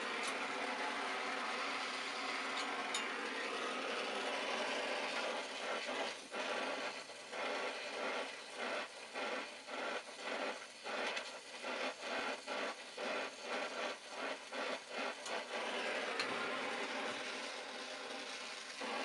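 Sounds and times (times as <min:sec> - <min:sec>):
torch flame hissing: 0:00.0 - 0:19.0.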